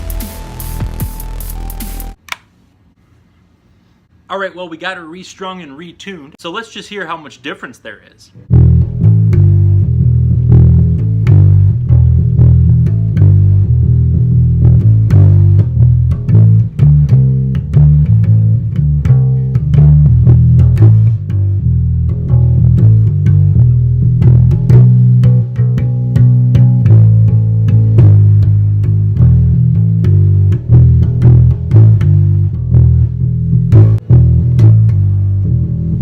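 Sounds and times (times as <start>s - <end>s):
electric bass plucked notes: 0.0s - 2.2s, 8.4s - 36.0s.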